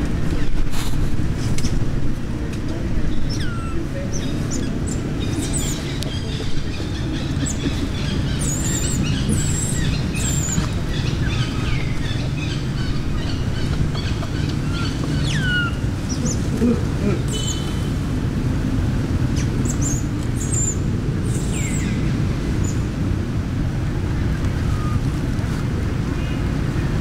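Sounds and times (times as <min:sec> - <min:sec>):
birds chirping: 0:01.3 - 0:18.1, 0:19.2 - 0:23.1, 0:24.0 - 0:25.2.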